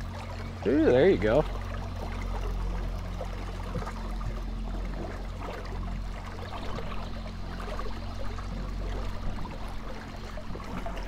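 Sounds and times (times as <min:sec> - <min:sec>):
steady low hum: 0:00.0 - 0:11.0
water lapping against boat: 0:00.0 - 0:11.0.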